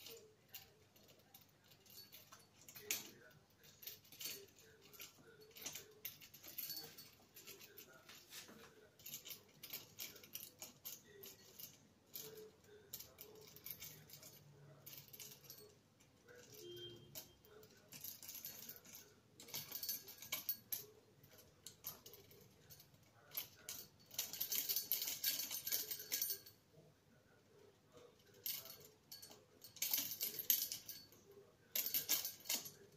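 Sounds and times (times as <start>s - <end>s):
small metal bell jingling: 0.0s - 26.6s, 28.0s - 32.9s.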